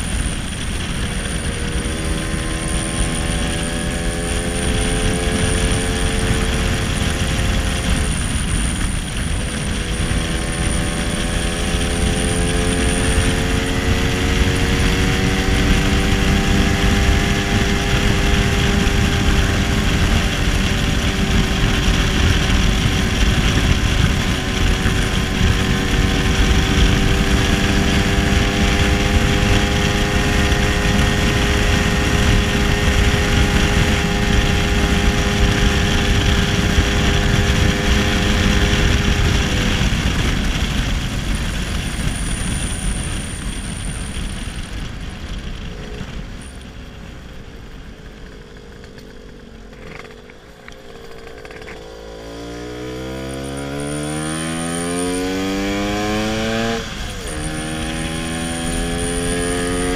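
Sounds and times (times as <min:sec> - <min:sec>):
two-stroke scooter engine: 0:00.0 - 0:59.9
wind rumbling on microphone: 0:00.0 - 0:59.9.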